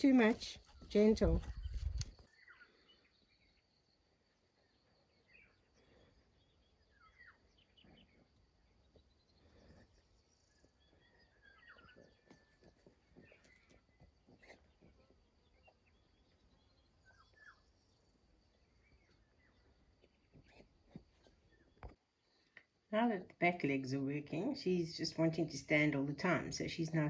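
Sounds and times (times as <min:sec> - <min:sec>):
small bird chirps: 0:00.2 - 0:22.6.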